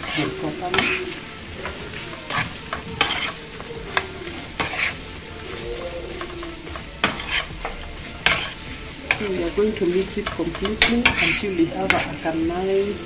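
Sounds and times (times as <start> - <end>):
food sizzling in a frying pan: 0.0 - 13.0
utensil scraping a pan: 0.0 - 13.0.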